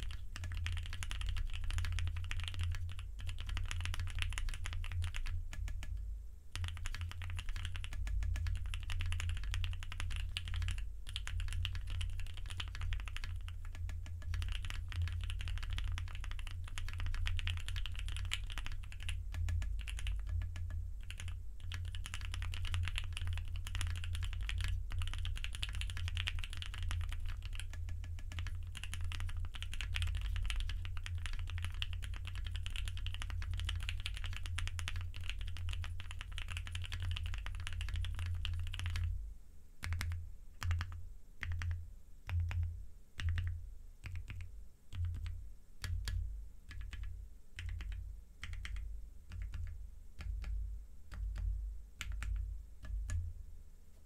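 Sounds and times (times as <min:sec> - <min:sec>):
mechanical keyboard typing: 0:00.0 - 0:06.0, 0:06.6 - 0:39.1, 0:39.8 - 0:53.2.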